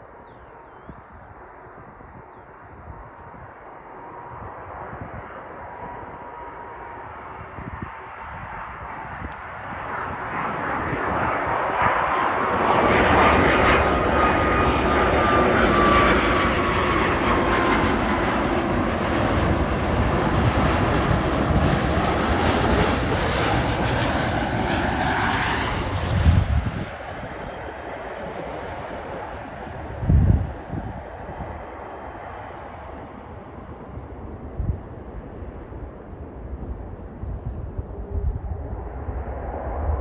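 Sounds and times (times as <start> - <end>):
jet engine whine: 0.0 - 40.0.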